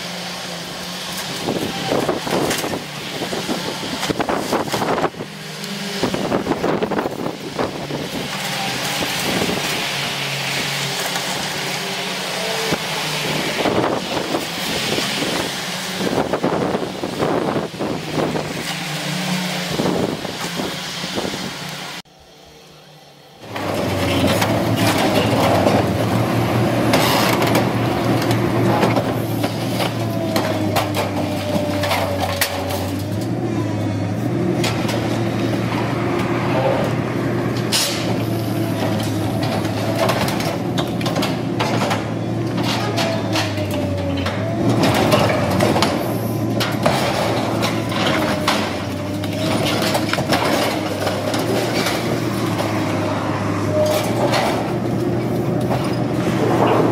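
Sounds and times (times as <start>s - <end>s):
debris crashing and crunching: 0.0s - 20.8s, 23.4s - 56.9s
excavator diesel engine running: 0.0s - 56.9s.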